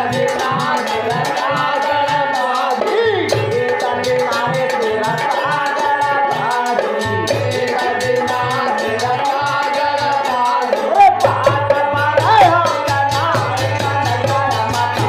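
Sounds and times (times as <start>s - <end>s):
devotional music with percussion: 0.0s - 15.0s.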